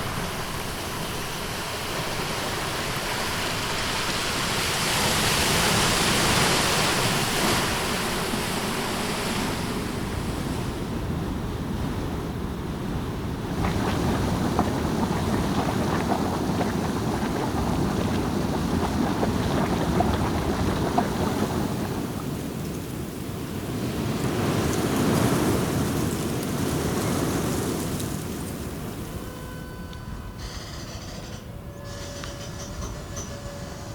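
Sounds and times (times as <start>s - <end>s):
ocean waves washing ashore: 0.0s - 29.5s
wind: 0.0s - 33.9s.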